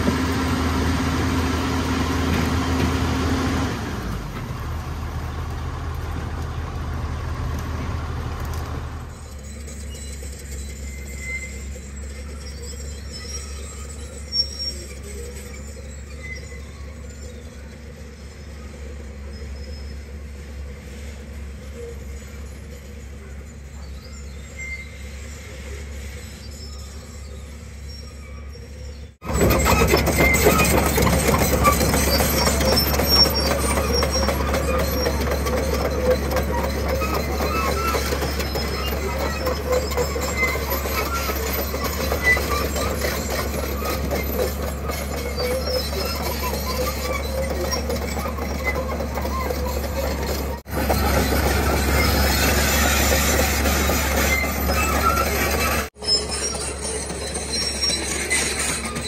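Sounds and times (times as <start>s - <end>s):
diesel engine running: 0.0s - 24.3s, 28.8s - 59.0s
steel tracks clanking and squealing: 0.0s - 59.0s.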